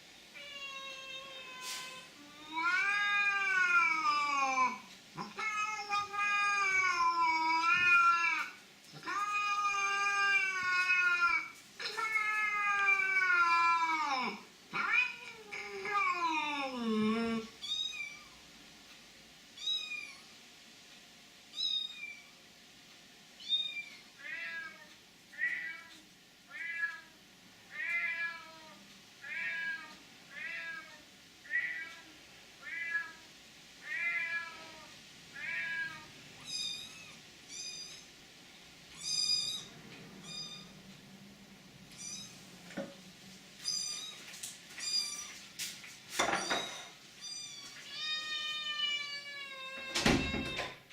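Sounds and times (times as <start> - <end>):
cat meowing: 0.4 - 18.4, 19.6 - 20.3, 23.4 - 27.1, 27.7 - 33.2, 33.8 - 38.1, 38.9 - 40.8, 41.9 - 42.4, 43.6 - 45.4, 46.2 - 50.8.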